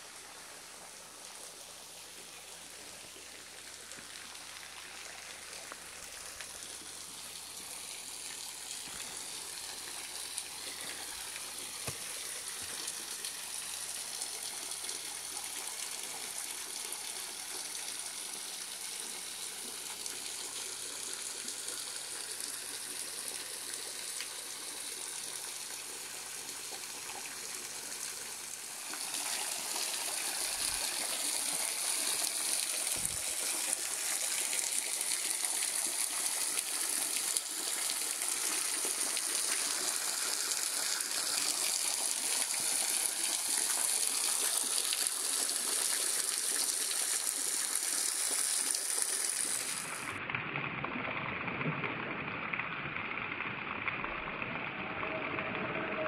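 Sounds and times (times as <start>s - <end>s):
small waterfall splashing into pool: 0.0s - 56.0s.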